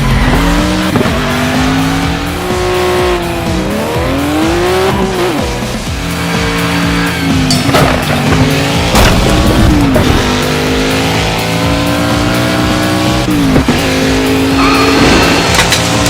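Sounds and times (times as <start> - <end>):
background music: 0.0 - 16.0
race car engines at high revs: 0.0 - 16.0.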